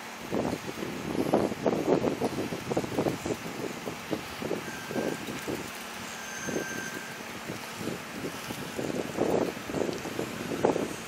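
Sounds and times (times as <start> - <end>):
engine running rough: 0.0 - 11.0
wind buffeting microphone: 0.0 - 11.0.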